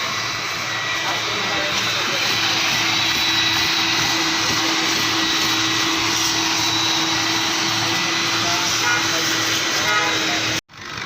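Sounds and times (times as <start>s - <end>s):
loud rushing hiss: 0.0s - 10.6s
machine motor whine: 0.0s - 11.0s.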